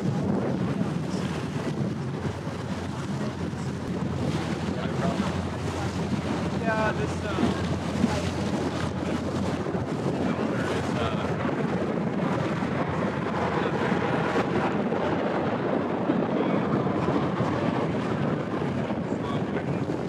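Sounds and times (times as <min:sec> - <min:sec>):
low engine hum: 0:00.0 - 0:20.0
wind and water rushing: 0:00.0 - 0:20.0.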